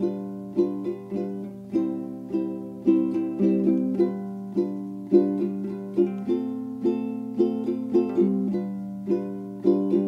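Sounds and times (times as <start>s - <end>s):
plucked ukulele melody: 0.0s - 10.0s.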